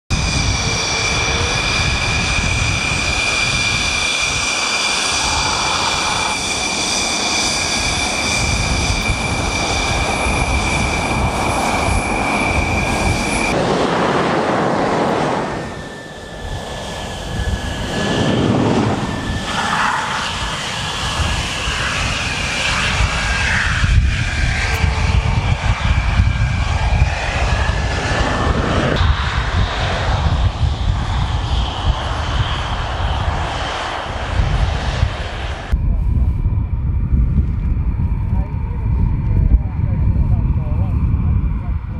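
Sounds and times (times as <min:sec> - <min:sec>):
jet engines whining: 0:00.1 - 0:41.9.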